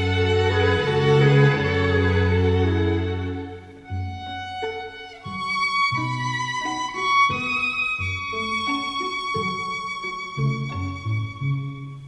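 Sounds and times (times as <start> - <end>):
violin playing held notes: 0.0 - 12.0.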